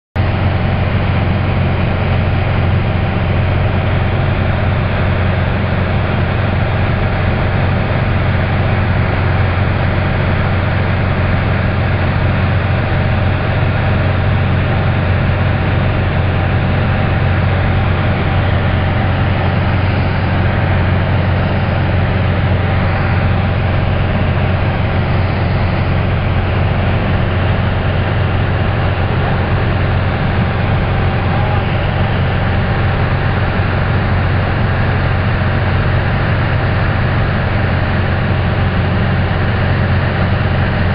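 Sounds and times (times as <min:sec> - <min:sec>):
aircraft engine and propeller drone: 0:00.2 - 0:40.9.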